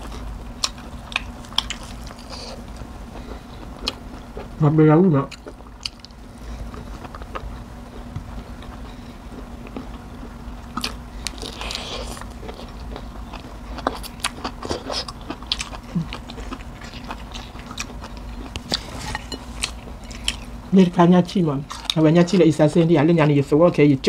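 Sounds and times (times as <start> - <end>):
chewing crisp raw vegetables: 0.0 - 4.6, 5.2 - 20.6, 21.6 - 23.5.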